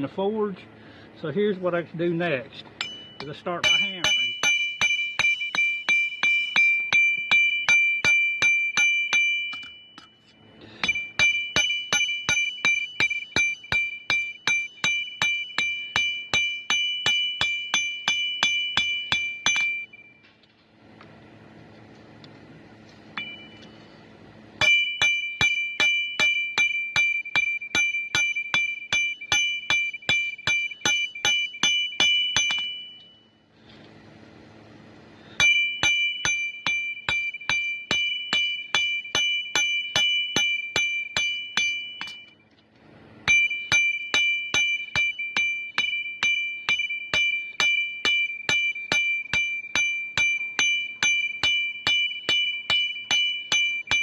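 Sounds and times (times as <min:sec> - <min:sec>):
hammer striking copper on anvil: 0:02.6 - 0:20.0, 0:23.2 - 0:23.8, 0:24.6 - 0:33.2, 0:35.3 - 0:42.4, 0:43.2 - 0:54.0.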